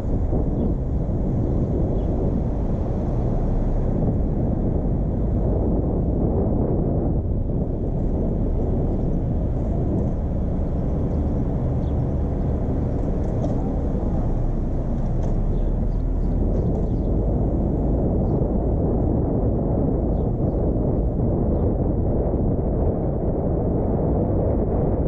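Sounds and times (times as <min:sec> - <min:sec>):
car driving rumble: 0:00.0 - 0:25.0.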